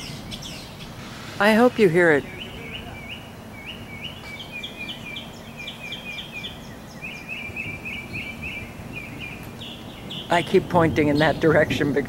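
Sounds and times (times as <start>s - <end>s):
bird chirping: 0.0s - 12.0s
steady low rumble: 0.0s - 12.0s.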